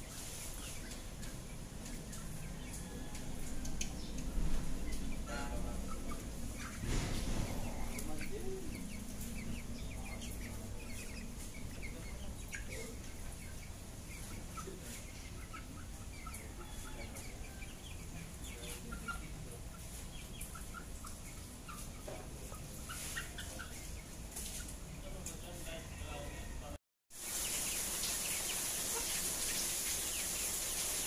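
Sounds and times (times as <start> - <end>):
chickens clucking: 0.0 - 26.4, 27.2 - 31.0.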